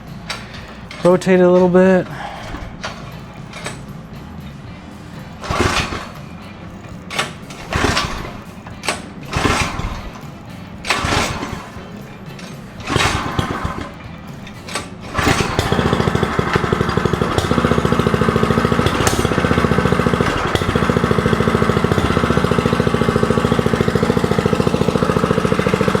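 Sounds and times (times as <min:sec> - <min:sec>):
recoil starter pull: 0:00.0 - 0:26.0
small engine idling: 0:00.0 - 0:26.0.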